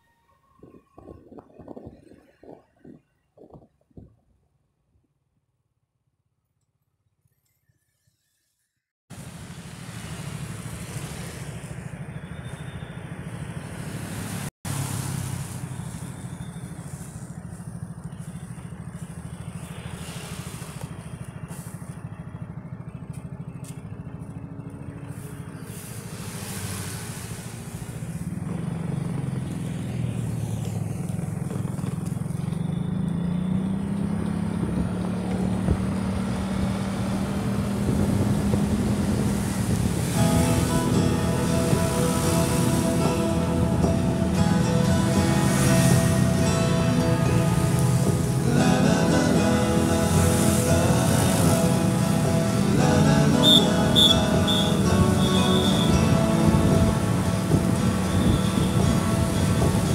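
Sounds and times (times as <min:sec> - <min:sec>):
road noise: 0:00.0 - 0:07.3, 0:09.1 - 0:59.9
vehicle engine accelerating: 0:09.1 - 0:59.9.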